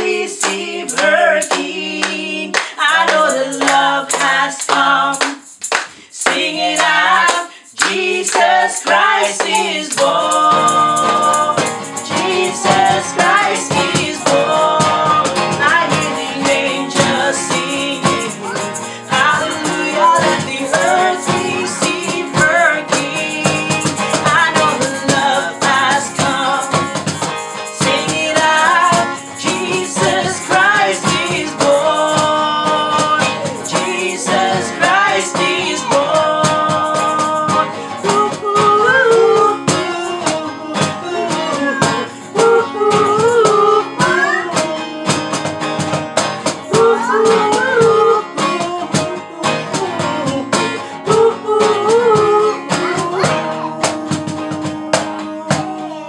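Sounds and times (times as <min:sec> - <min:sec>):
strummed acoustic guitar: 0:00.0 - 0:05.2, 0:06.2 - 0:56.0
hand clapping: 0:00.0 - 0:49.2, 0:51.8 - 0:56.0
group singing worship song: 0:00.0 - 0:56.0.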